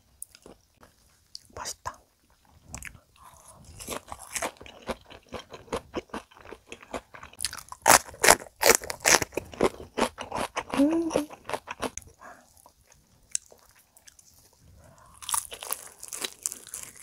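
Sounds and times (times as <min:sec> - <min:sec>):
chewing crispy food: 0:00.2 - 0:01.5, 0:02.2 - 0:17.0.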